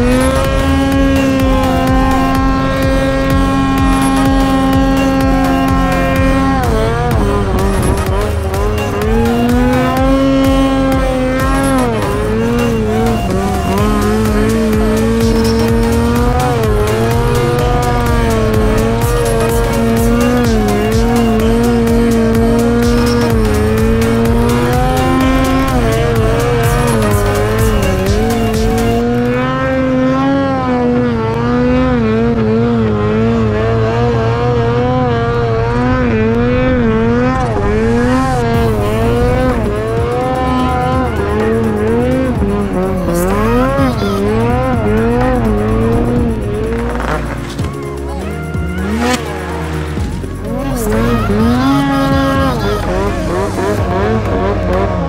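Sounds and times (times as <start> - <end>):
snowmobile engine revving: 0.0 - 55.0
track noise on snow: 0.0 - 55.0.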